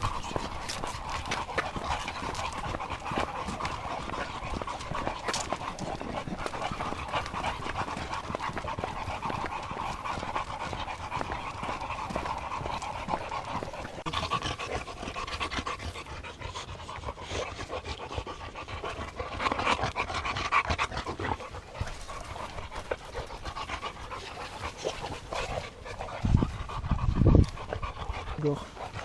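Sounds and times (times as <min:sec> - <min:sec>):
dogs panting: 0:00.0 - 0:29.0.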